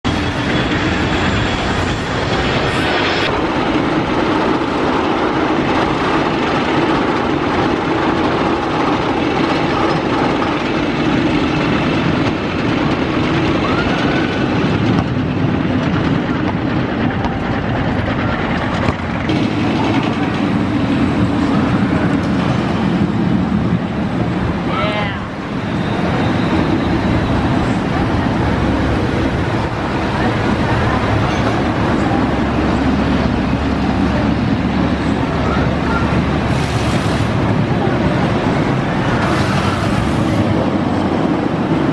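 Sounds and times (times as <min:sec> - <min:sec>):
roller coaster wheels rumbling on rail: 0:00.0 - 0:41.9.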